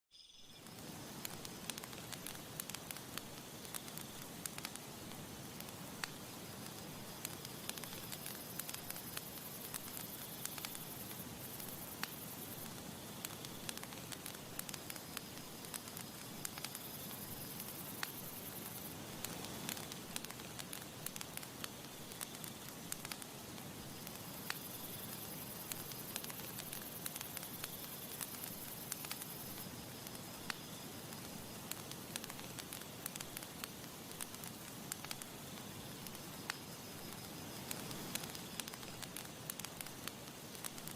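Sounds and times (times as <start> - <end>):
campfire crackling: 0.6 - 40.9.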